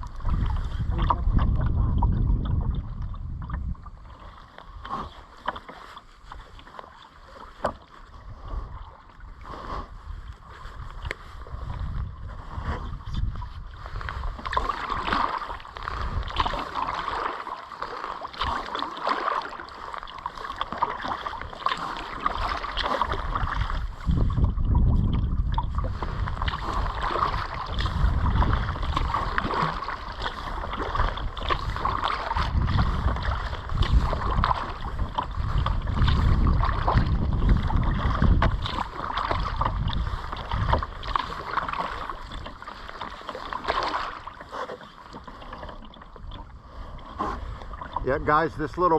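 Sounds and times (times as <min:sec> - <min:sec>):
wind rumbling on microphone: 0:00.0 - 0:05.4, 0:07.6 - 0:18.8, 0:19.5 - 0:48.9
paddle splashing water: 0:00.0 - 0:48.9.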